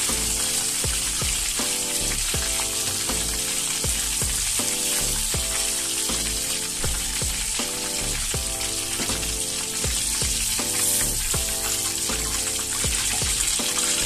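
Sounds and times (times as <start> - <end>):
background music with beat: 0.0 - 14.0
oil sizzling: 0.0 - 14.0.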